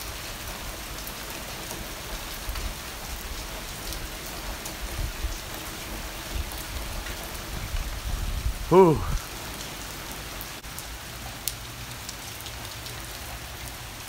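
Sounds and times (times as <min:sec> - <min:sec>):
heavy rain on roof tiles: 0:00.0 - 0:14.0.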